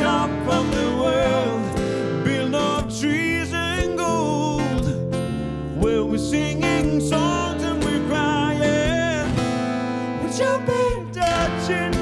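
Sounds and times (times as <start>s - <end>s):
woman and man singing: 0.0s - 5.0s, 5.8s - 9.4s, 10.0s - 12.0s
acoustic guitar strumming: 0.0s - 12.0s.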